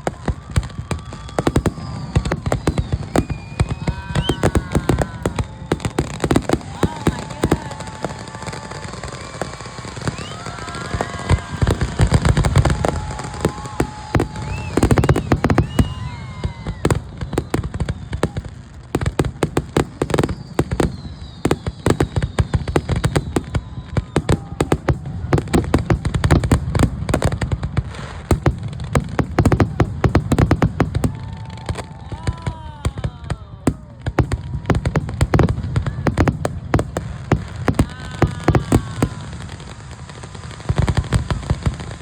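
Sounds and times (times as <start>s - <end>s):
fireworks bangs and crackles: 0.0s - 42.0s
fireworks booming: 0.0s - 42.0s.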